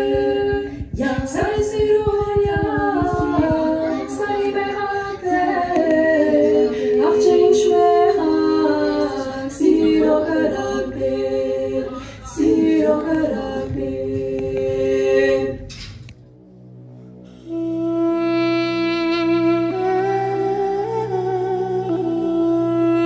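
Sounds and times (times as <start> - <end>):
unaccompanied choir singing: 0.0 - 15.7, 17.3 - 23.0.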